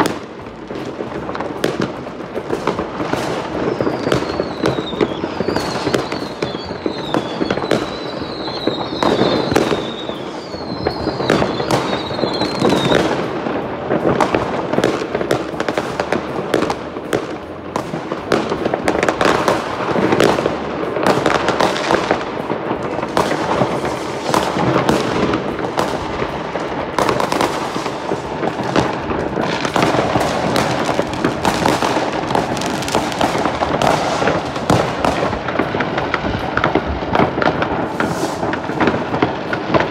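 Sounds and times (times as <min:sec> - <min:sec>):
fireworks crackling and banging: 0:00.0 - 0:39.9
whistling rockets: 0:01.0 - 0:39.9.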